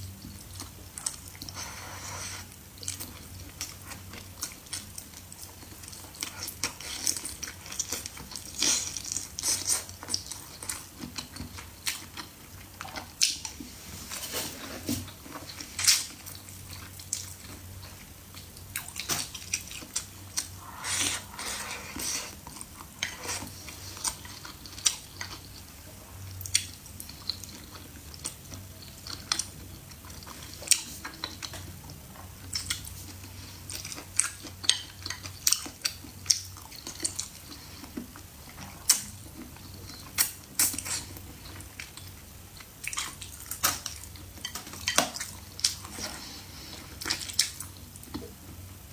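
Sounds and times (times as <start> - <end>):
person chewing food: 0.2 - 14.2, 15.0 - 48.6.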